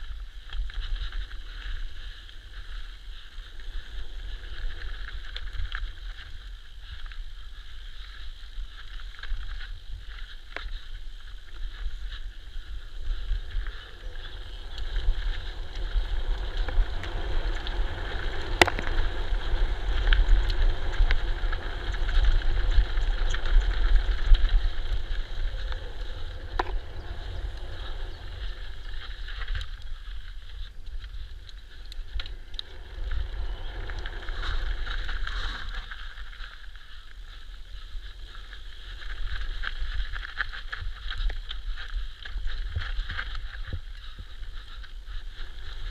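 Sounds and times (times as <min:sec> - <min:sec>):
mountain bike rattle and tyre noise: 0:00.0 - 0:45.9
wind buffeting microphone: 0:00.0 - 0:45.9.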